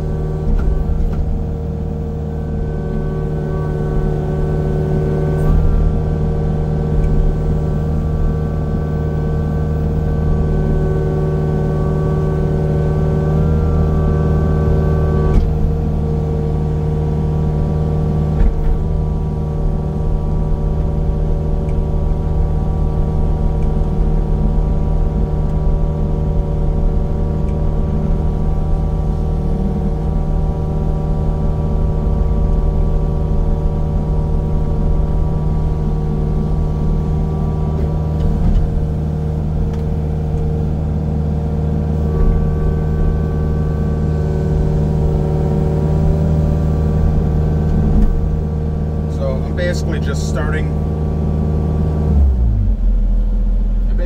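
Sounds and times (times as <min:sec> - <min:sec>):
heavy machinery engine running: 0:00.0 - 0:54.0.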